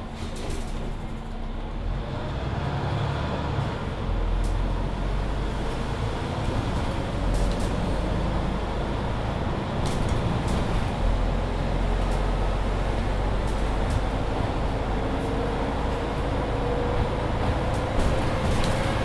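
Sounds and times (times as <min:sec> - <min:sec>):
bus engine running: 0:00.0 - 0:19.0
low road rumble: 0:00.0 - 0:19.0.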